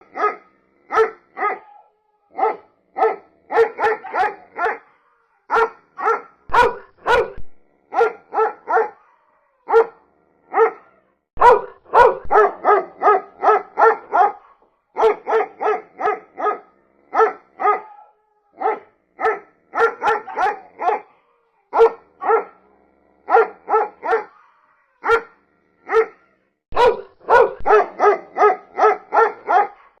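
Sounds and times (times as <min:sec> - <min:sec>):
dog barking: 0:00.0 - 0:30.0.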